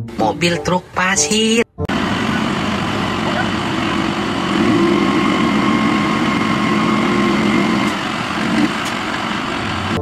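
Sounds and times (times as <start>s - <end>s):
diesel engine running: 1.9s - 10.0s
hydraulic whine: 1.9s - 10.0s.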